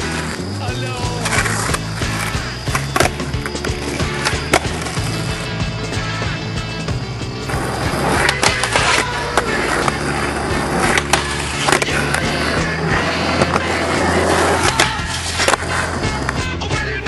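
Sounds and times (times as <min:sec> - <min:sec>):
background music: 0:00.0 - 0:17.0
skateboard clacks: 0:00.0 - 0:17.0
skateboard rolling on concrete: 0:00.0 - 0:17.0
skateboard trucks grinding on rail: 0:00.0 - 0:17.0.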